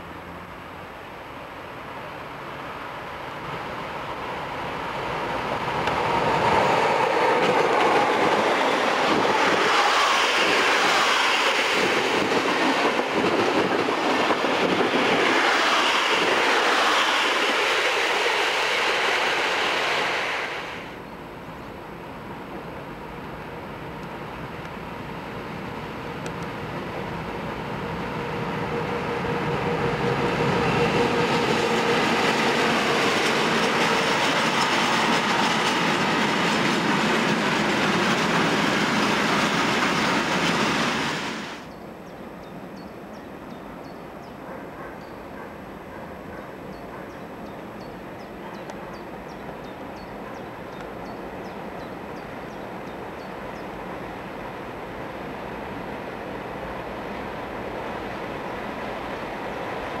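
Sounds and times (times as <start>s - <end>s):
freight train passing: 0.0s - 60.0s.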